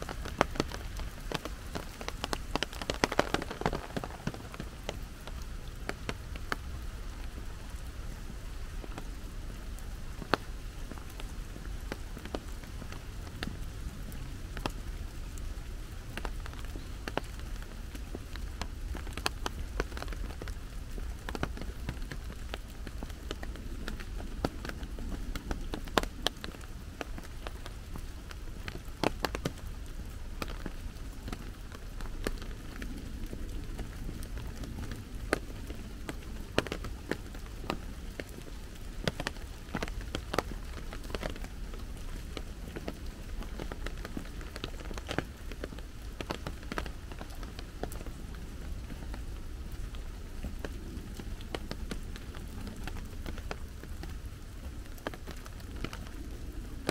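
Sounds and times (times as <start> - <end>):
sharp raindrops striking close: 0.0 - 56.9
steady rain falling: 0.0 - 56.9.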